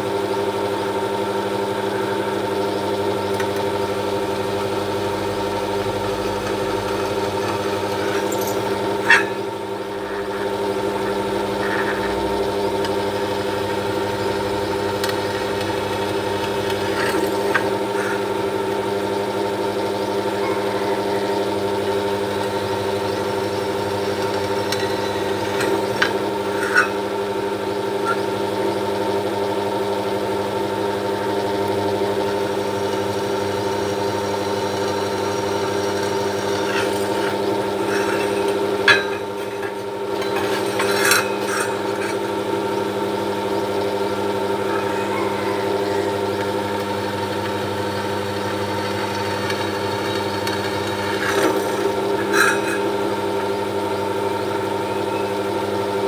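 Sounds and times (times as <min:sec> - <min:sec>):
drill press motor running: 0:00.0 - 0:56.0
drill bit cutting metal: 0:01.8 - 0:20.2, 0:21.4 - 0:28.8, 0:33.6 - 0:46.8, 0:48.8 - 0:55.6.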